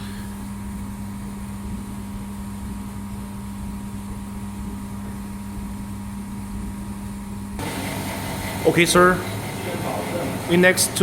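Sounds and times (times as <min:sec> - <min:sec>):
welding machine electrical hum: 0:00.0 - 0:11.0.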